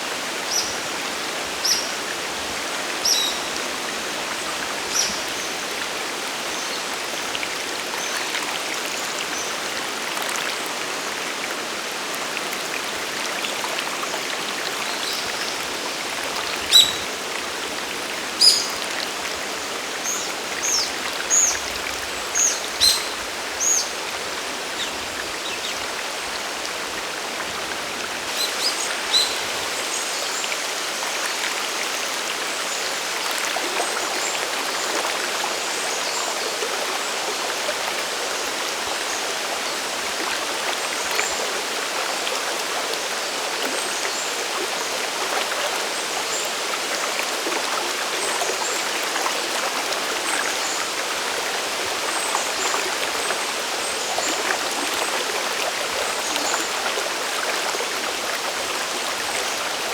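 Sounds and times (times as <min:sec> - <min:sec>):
stream and waterfall rushing: 0:00.0 - 0:59.9.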